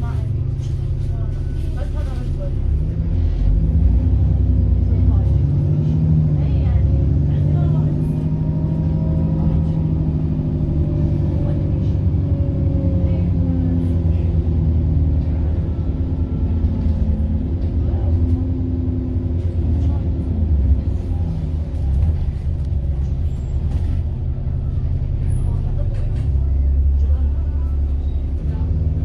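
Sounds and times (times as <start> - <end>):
bus engine rumbling: 0.0 - 29.0.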